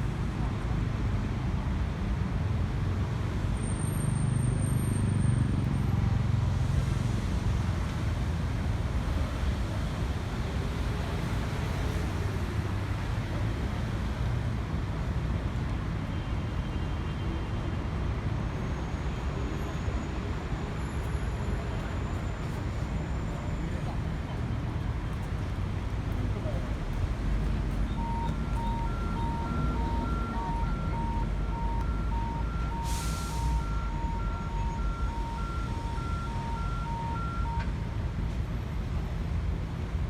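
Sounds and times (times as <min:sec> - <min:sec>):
cars and buses passing: 0:00.0 - 0:40.0.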